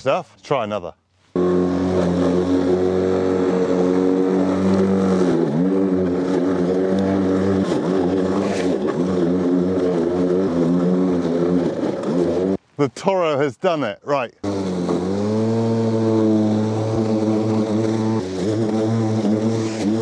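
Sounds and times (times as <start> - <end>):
lawnmower motor and blade humming: 1.3 - 12.7, 14.4 - 20.0.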